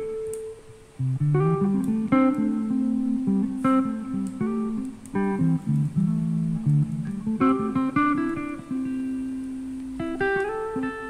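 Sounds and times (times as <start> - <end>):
plucked guitar notes: 0.0 - 11.0.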